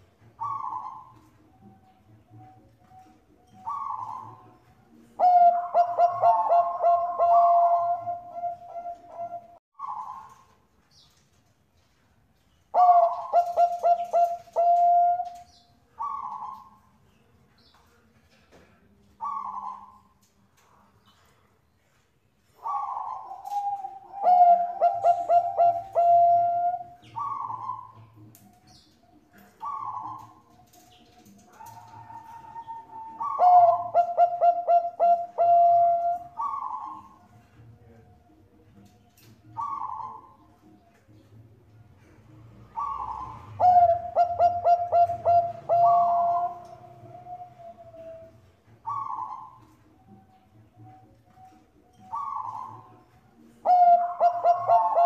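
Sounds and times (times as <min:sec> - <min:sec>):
dove cooing: 0:00.0 - 0:10.6, 0:12.7 - 0:17.0, 0:19.2 - 0:20.2, 0:22.4 - 0:55.0.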